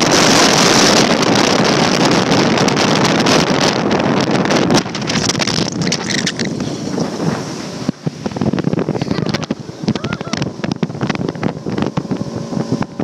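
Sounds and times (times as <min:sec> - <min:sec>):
motorboat running: 0:00.0 - 0:13.0
wind buffeting microphone: 0:00.0 - 0:13.0.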